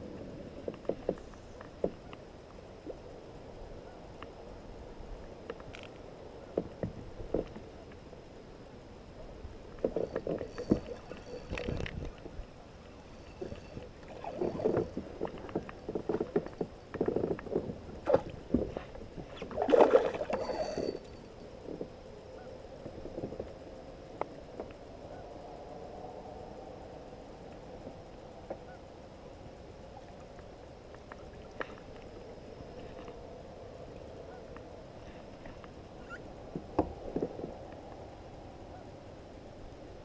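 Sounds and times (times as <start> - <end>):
water noise: 0.0 - 39.0.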